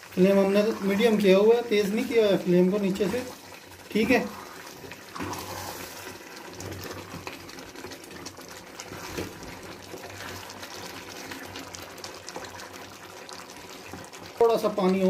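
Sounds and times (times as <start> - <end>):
gravy bubbling and sloshing: 0.0 - 15.0.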